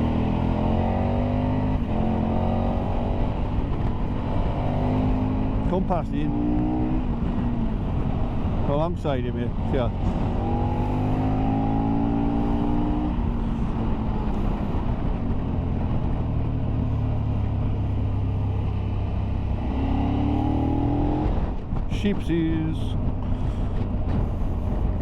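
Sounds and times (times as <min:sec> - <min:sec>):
motorcycle engine: 0:00.0 - 0:25.0
road and wind noise: 0:00.0 - 0:25.0.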